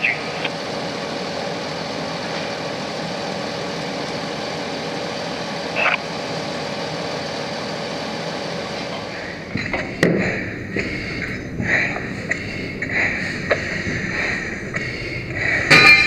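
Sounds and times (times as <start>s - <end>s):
engine drone: 0.0s - 16.0s
faint constant hum: 0.0s - 16.0s.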